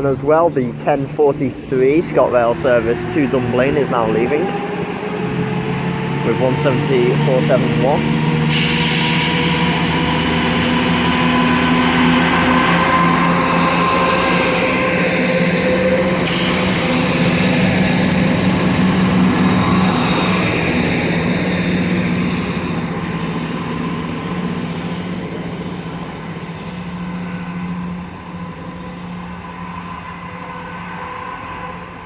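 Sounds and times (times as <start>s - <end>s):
train diesel engine humming: 0.0s - 32.0s.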